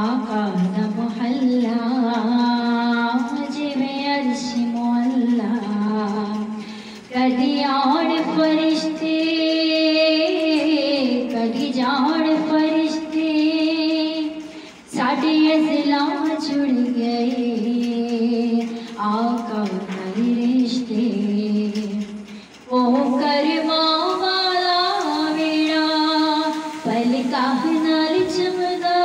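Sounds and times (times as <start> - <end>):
woman singing into a microphone: 0.0 - 29.0.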